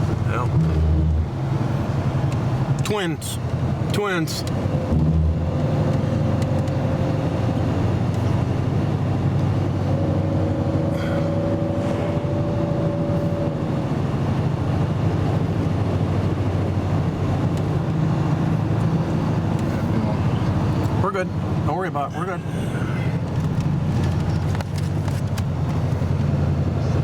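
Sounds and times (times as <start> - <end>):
car engine and road hum: 0.0 - 27.0.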